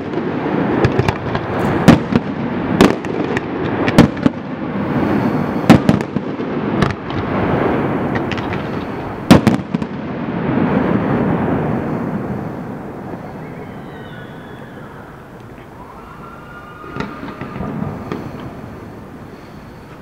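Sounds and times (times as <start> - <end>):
firework shells bursting: 0.0 - 10.0, 10.6 - 20.0
fireworks crackle and rumble: 0.0 - 20.0.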